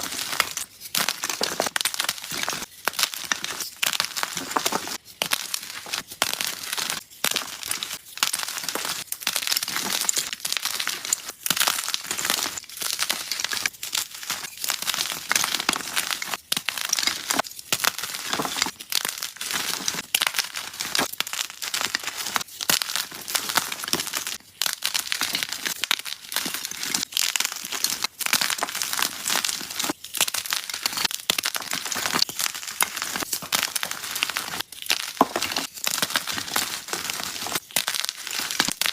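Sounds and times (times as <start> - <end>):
chalk blocks crunching: 0.0 - 38.9.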